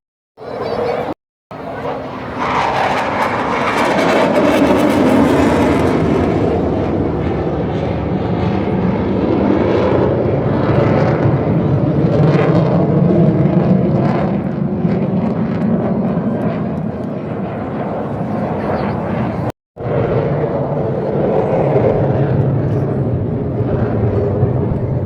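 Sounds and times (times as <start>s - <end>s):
aircraft engine rushing overhead: 0.4s - 25.0s.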